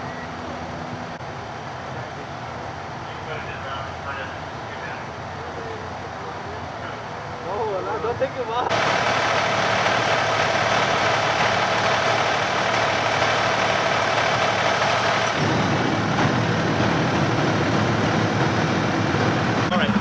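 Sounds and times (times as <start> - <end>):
diesel engine idling: 0.5 - 20.0.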